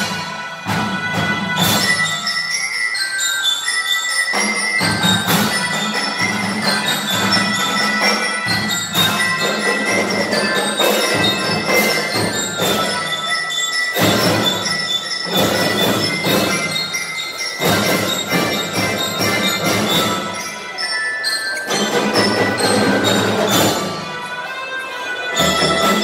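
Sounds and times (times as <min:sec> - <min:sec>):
marching drum band playing: 0:00.0 - 0:02.3, 0:04.3 - 0:13.3, 0:13.9 - 0:20.7, 0:21.7 - 0:24.4, 0:25.4 - 0:26.0.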